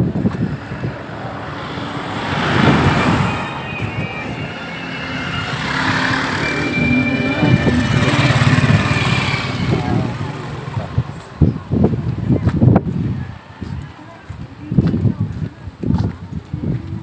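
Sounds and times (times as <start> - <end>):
vehicles passing: 0.0 - 16.6.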